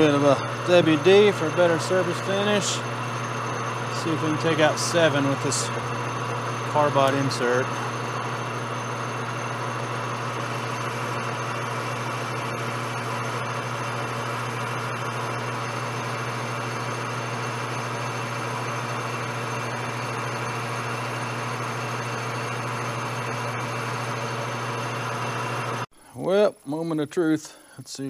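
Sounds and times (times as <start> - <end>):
metal lathe running: 0.0 - 25.9.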